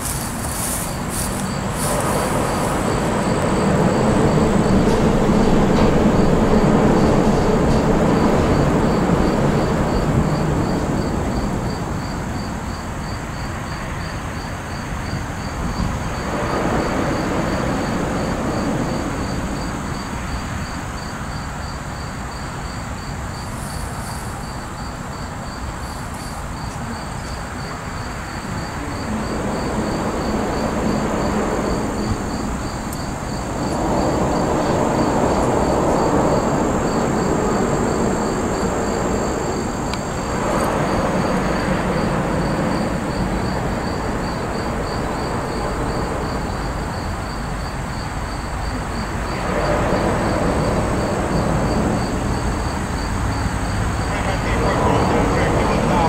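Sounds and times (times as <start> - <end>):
crickets chirping: 0.0 - 56.0
distant traffic rumble: 0.0 - 56.0.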